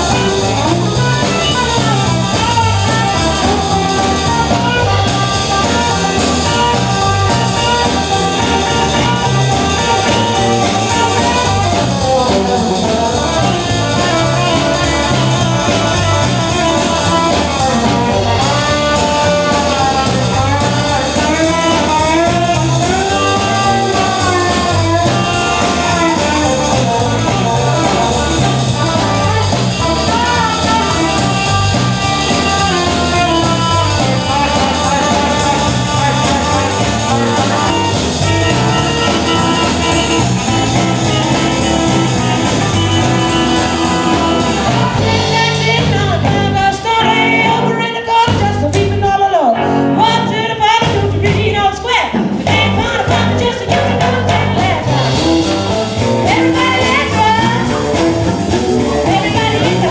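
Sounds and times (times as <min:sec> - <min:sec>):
sliding lead melody: 0:00.0 - 0:48.3, 0:52.4 - 0:59.9
drum and bass beat: 0:00.0 - 0:49.1, 0:50.0 - 0:59.9
band playing live: 0:00.0 - 0:59.9.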